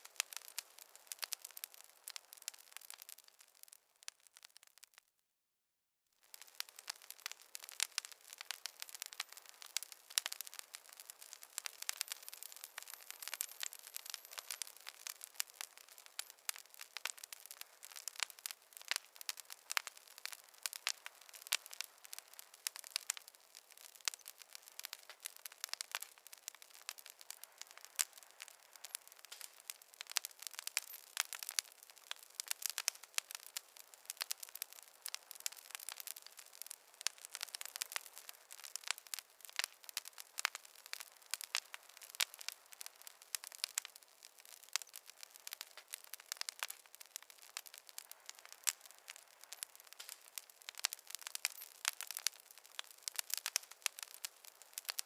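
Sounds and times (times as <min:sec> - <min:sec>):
wood fire crackling: 0:00.0 - 0:05.0, 0:06.2 - 0:55.0.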